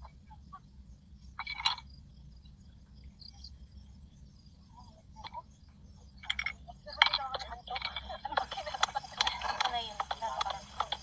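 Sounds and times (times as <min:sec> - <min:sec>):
frogs croaking: 0:00.0 - 0:11.0
steady low hum: 0:00.0 - 0:11.0.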